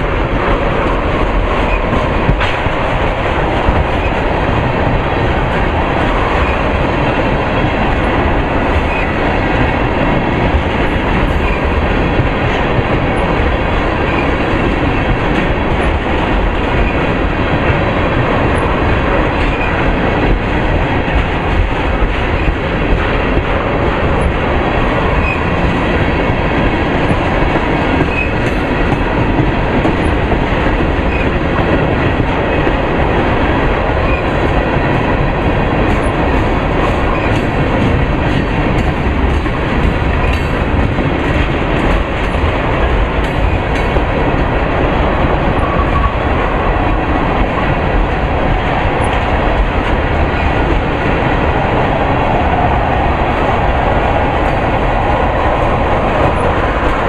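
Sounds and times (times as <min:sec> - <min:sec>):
wheels clicking over rail joints: 0:00.0 - 0:50.8
train wheels rumbling on rails: 0:00.0 - 0:57.0.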